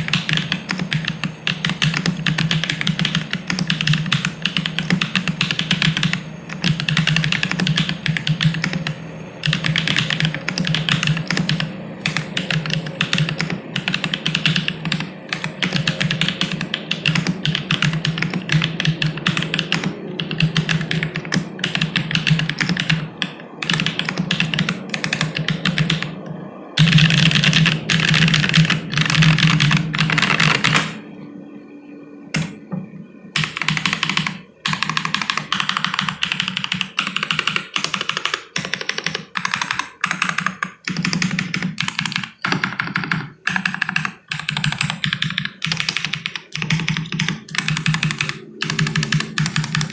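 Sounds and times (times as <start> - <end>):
mechanical keyboard typing: 0.0 - 31.0, 32.4 - 32.6, 33.4 - 49.9.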